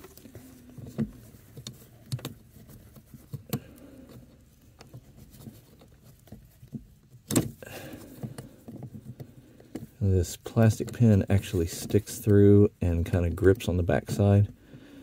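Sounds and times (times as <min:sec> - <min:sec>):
light plastic clicks and knocks: 0:00.0 - 0:14.7.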